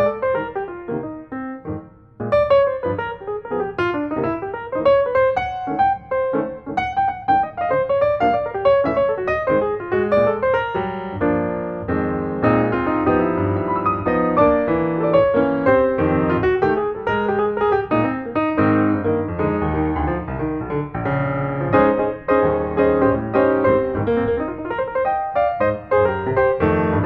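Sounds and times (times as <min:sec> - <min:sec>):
piano playing quick melody: 0:00.0 - 0:27.0.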